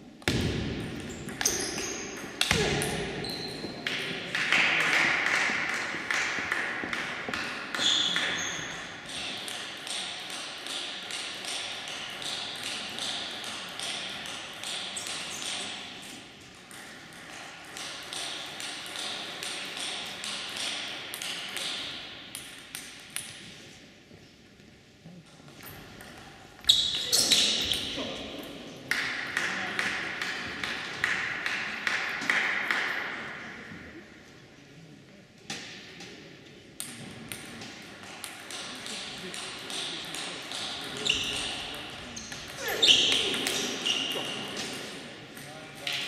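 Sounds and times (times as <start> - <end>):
table tennis balls clicking: 0.4 - 23.6, 25.5 - 33.0, 36.8 - 46.0.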